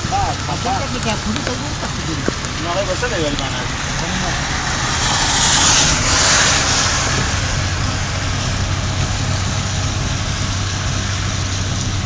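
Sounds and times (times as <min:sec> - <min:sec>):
tyre and wind noise: 0:00.0 - 0:12.0
vehicle engine hum: 0:00.0 - 0:12.0.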